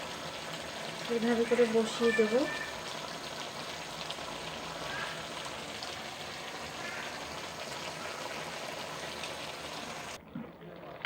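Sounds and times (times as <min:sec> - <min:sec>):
vegetables bubbling and sizzling: 0:00.0 - 0:11.0.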